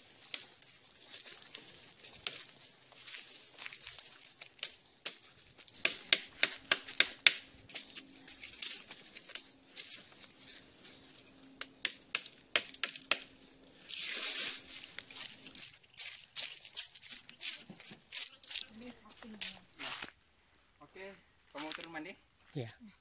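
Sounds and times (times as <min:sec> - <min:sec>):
footsteps crunching dry leaves: 0:00.0 - 0:20.2
twigs snapping underfoot: 0:00.0 - 0:20.2, 0:21.6 - 0:22.0
rustle of leaves: 0:00.0 - 0:22.5.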